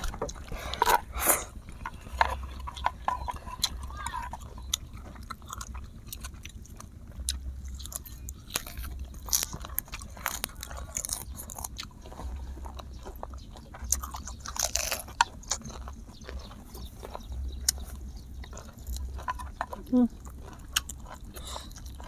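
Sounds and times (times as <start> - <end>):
chewing and biting: 0.0 - 22.0.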